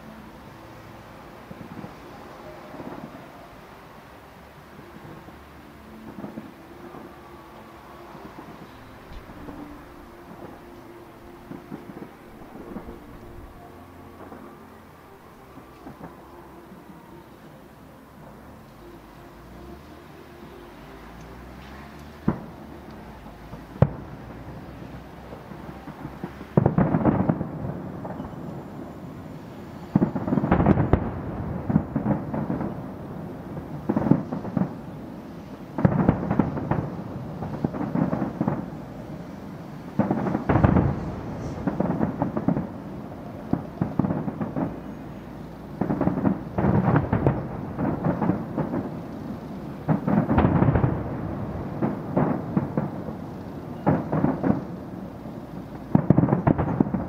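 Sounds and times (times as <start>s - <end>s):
fireworks crackling bursts: 0.0s - 57.0s
fireworks bangs: 1.5s - 3.8s, 5.9s - 18.6s, 21.6s - 57.0s.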